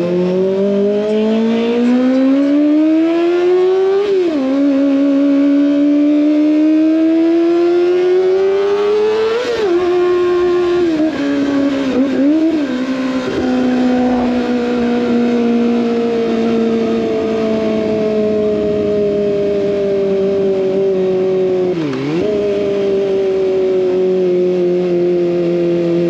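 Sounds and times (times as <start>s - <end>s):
motorcycle engine revving high: 0.0s - 26.0s.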